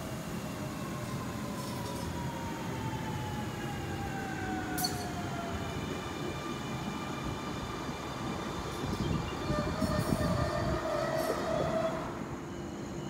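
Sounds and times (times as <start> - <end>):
train wheels rumbling on track: 0.0 - 13.0
train whine: 0.0 - 13.0.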